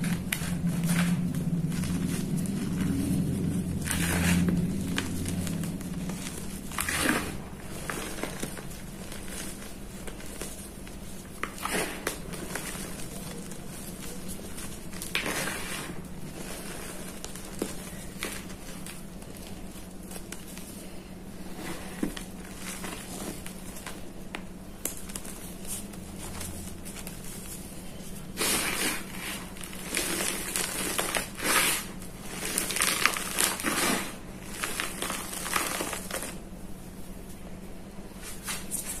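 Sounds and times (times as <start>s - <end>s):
hands crunching chalk: 0.0s - 36.4s.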